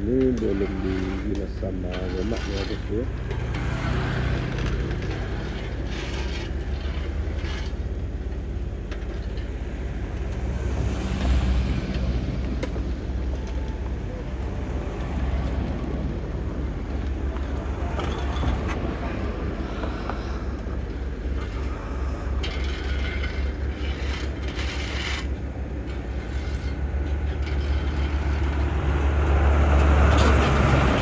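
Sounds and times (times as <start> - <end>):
heavy machinery engine rumbling: 0.0 - 31.0.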